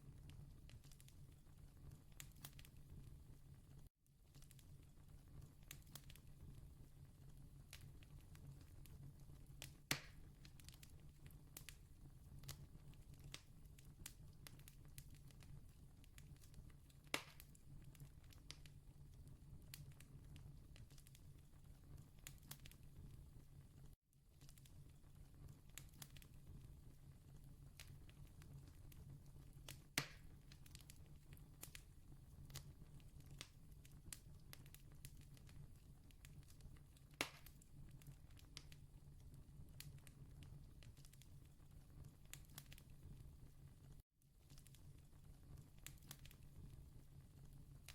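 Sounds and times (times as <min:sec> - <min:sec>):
distant campfire crackling: 0:00.0 - 0:47.9.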